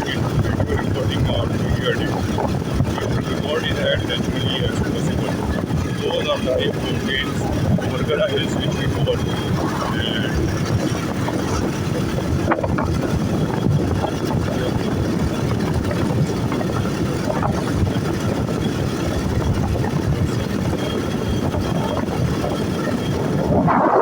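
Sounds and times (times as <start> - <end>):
motorcycle engine running: 0.0 - 24.0
wind on microphone: 0.0 - 24.0.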